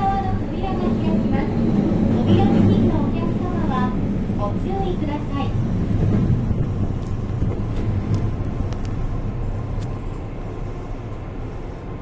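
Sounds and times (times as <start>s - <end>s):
train rumble from inside car: 0.0s - 12.0s.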